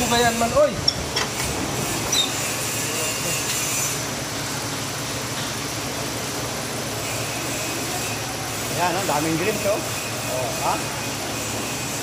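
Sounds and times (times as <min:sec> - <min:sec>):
metal shop machinery running: 0:00.0 - 0:12.0.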